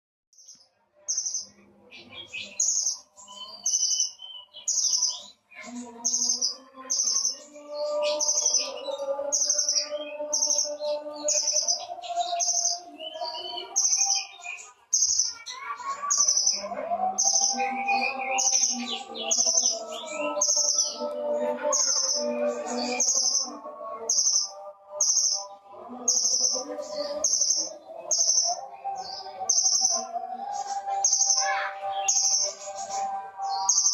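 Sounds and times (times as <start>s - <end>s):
songbird chirping: 0.4s - 33.9s.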